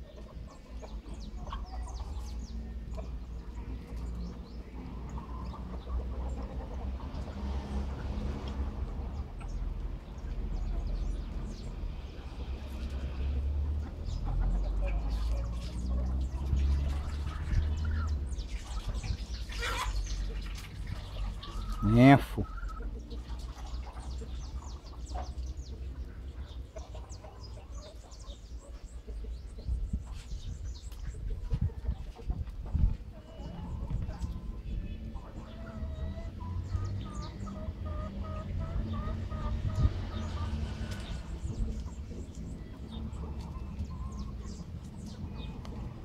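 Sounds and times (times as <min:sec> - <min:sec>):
young chickens peeping and clucking: 0:00.0 - 0:46.0.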